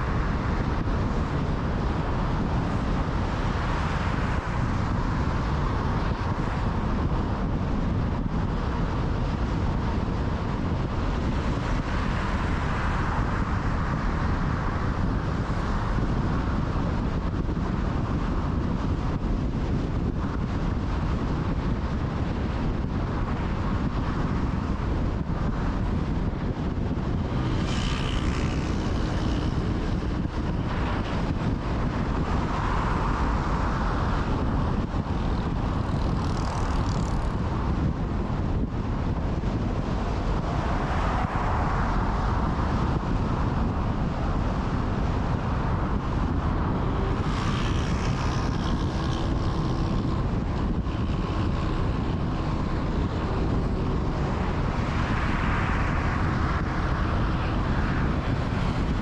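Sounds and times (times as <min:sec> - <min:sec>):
car road and wind noise: 0:00.0 - 0:59.0
passing traffic: 0:00.0 - 0:59.0.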